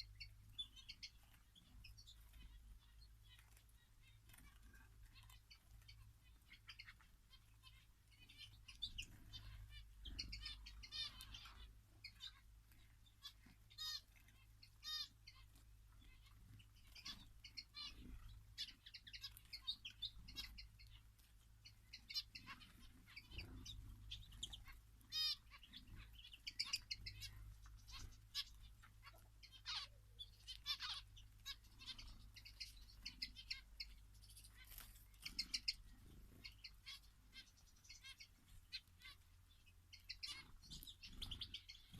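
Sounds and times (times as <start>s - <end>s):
finches chirping and twittering: 0.0s - 41.9s.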